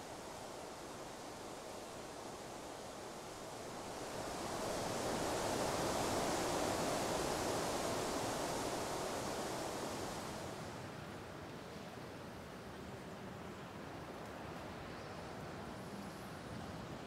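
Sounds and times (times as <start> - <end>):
wind rushing through trees: 0.0 - 17.0.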